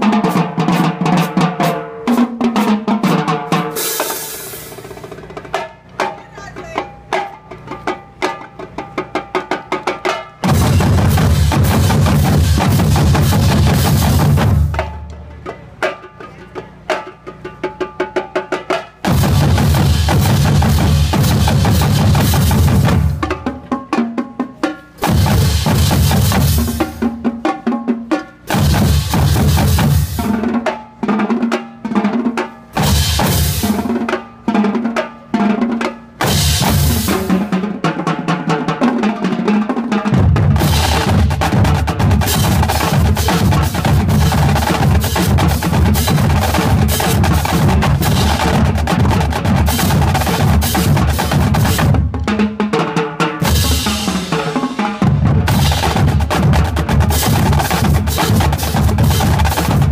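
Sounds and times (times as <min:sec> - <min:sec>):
drumline playing snare and bass drums: 0:00.0 - 0:59.9.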